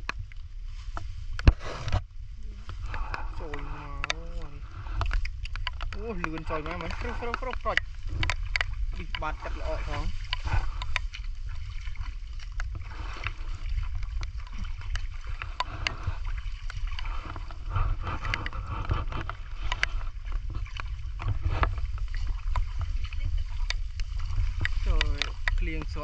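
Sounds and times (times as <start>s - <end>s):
steady low rumble: 0.0s - 26.0s
wading through shallow water: 0.0s - 26.0s
rain falling on water: 2.2s - 26.0s
sharp splashes and drips: 2.7s - 18.5s, 19.5s - 26.0s.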